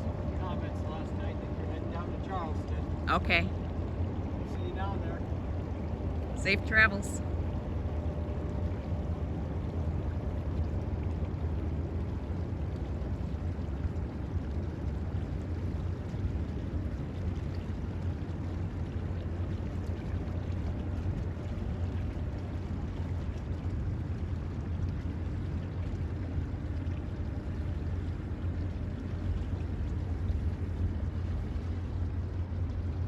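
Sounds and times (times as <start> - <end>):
boat engine rumble: 0.0 - 33.0
water rushing alongside boat: 0.0 - 33.0.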